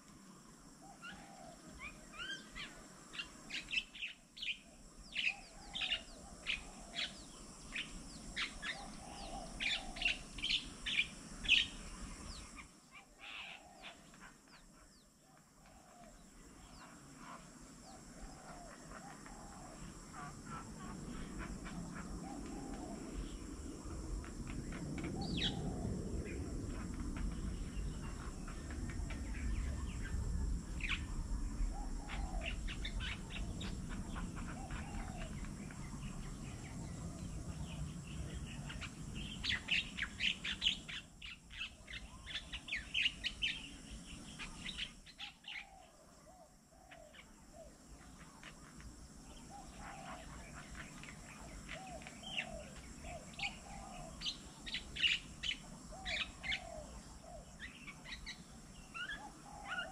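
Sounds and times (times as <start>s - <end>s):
wild birds chirping: 0.0s - 59.9s
lower bird call: 0.8s - 48.6s, 49.3s - 59.9s.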